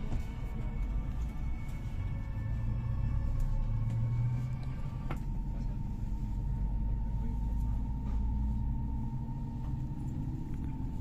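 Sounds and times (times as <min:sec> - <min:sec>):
faint steady hum: 0:00.0 - 0:11.0
train cabin rumble: 0:00.0 - 0:11.0.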